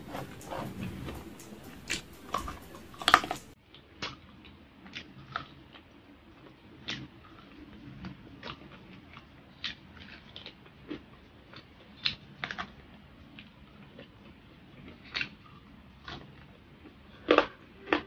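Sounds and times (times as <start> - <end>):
crunching and chewing: 0.0 - 4.3, 6.4 - 18.0.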